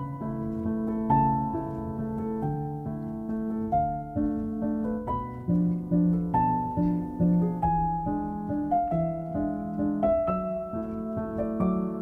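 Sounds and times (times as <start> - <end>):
gentle plucked melody: 0.0 - 12.0.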